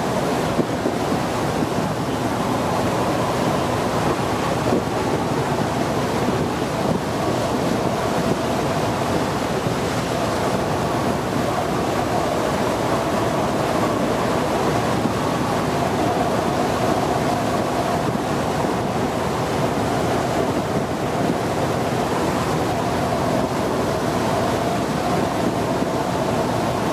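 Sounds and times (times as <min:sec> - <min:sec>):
boat engine humming: 0:00.0 - 0:26.9
water churning past boat: 0:00.0 - 0:26.9
wind on microphone: 0:00.0 - 0:26.9.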